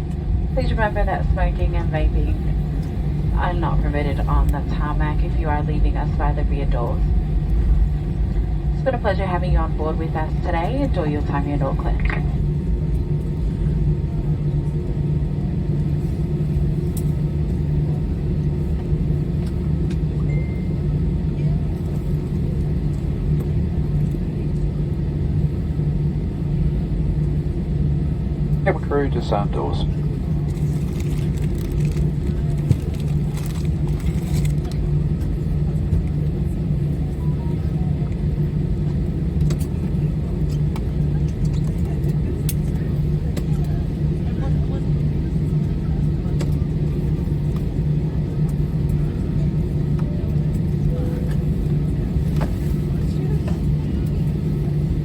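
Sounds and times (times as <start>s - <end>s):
aircraft engines idling: 0.0s - 55.0s
airliner cabin rumble while taxiing: 0.0s - 55.0s.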